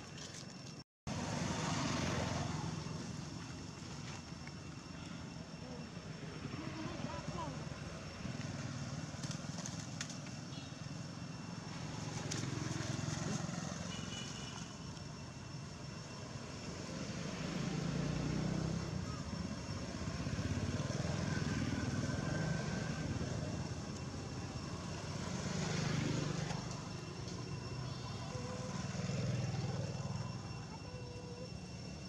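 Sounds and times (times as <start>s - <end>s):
road traffic passing: 0.4s - 32.0s.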